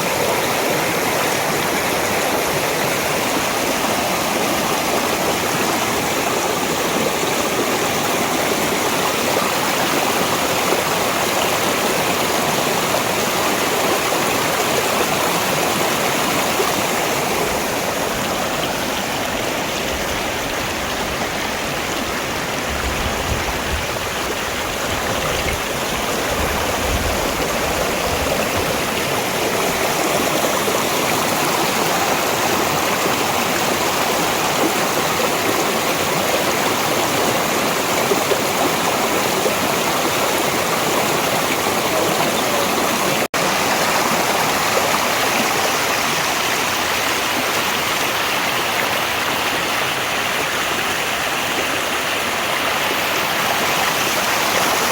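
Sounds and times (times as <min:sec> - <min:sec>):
stream splashing over rocks: 0:00.0 - 0:54.9.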